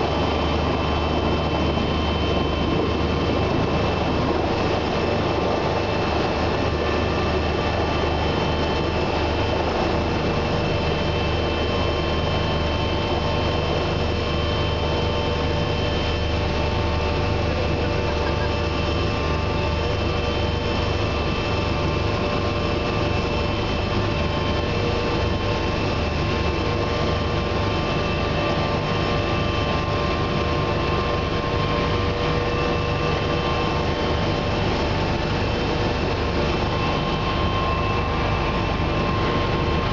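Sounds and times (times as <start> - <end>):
constant whining tones: 0.0 - 39.9
helicopter turbine and rotor drone: 0.0 - 39.9.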